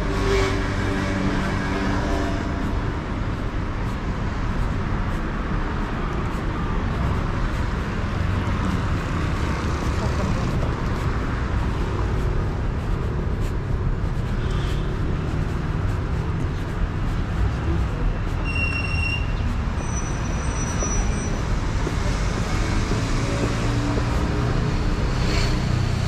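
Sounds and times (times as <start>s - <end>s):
bus: 0.0s - 26.0s
traffic rumble: 0.0s - 26.0s.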